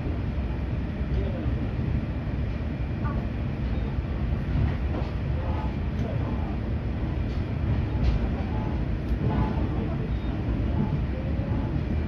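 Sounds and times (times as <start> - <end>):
railcar engine and wheels rumbling: 0.0 - 12.0.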